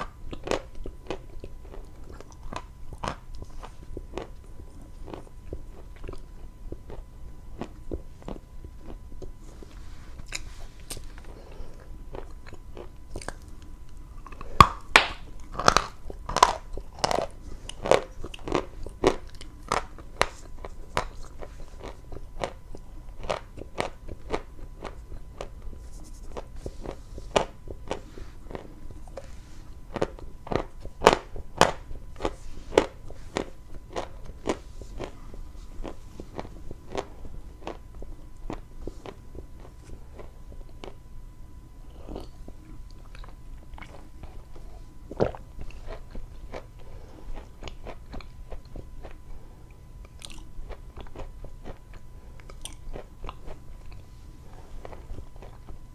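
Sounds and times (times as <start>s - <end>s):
chewing crunchy chalk: 0.0s - 41.0s, 41.8s - 55.9s.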